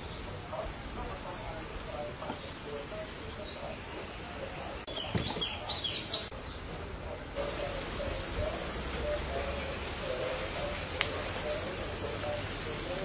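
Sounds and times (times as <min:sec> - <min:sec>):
bird chirping: 0:00.0 - 0:00.5, 0:02.1 - 0:12.5.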